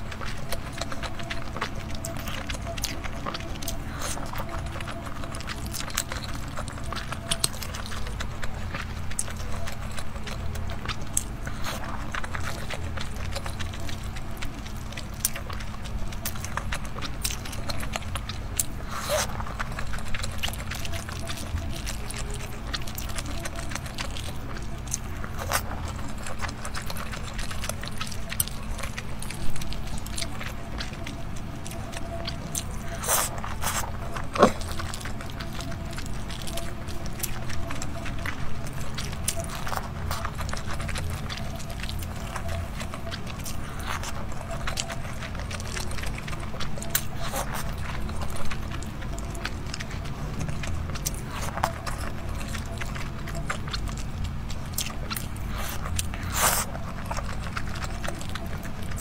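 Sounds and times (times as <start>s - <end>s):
soft wet chewing: 0.0s - 59.0s
steady low hum: 0.0s - 59.0s.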